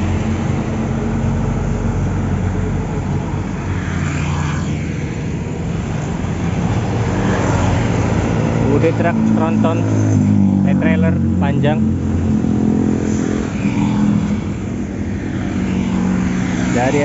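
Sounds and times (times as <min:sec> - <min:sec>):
truck diesel engine droning: 0:00.0 - 0:03.8, 0:04.9 - 0:17.0
motorcycle passing: 0:00.0 - 0:17.0.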